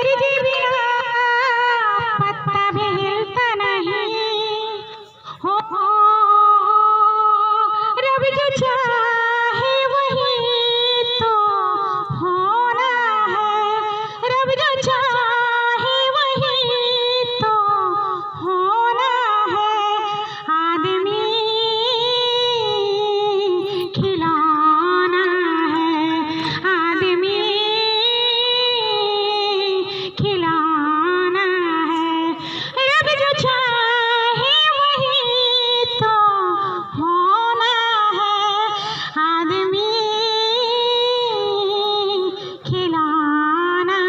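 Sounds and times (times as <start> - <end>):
woman singing unaccompanied: 0.0 - 44.0.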